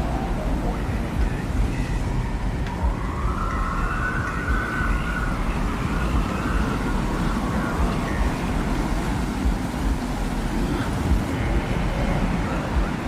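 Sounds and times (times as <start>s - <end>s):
low wind rumble: 0.0s - 13.0s
thin wavering wind whistle: 0.0s - 13.0s.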